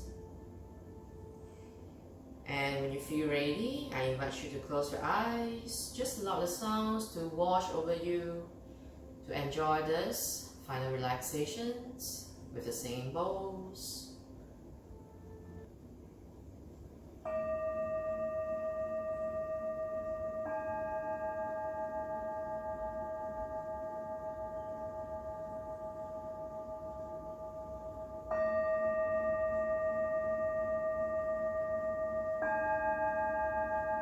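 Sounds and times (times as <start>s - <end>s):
singing bowls ringing: 0.0s - 15.7s, 17.2s - 34.0s.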